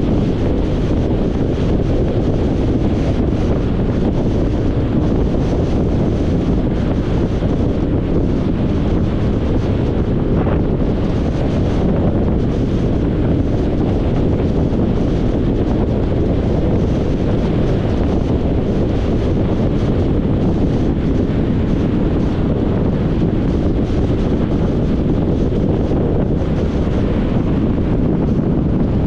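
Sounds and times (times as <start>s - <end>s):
vehicle road noise: 0.0s - 29.0s
wind rushing over microphone: 0.0s - 29.0s.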